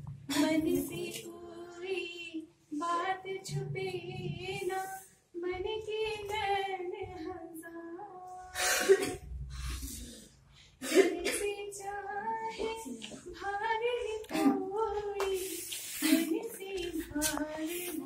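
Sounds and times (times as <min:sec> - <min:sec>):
woman singing unaccompanied: 0:00.3 - 0:08.6, 0:11.0 - 0:18.0.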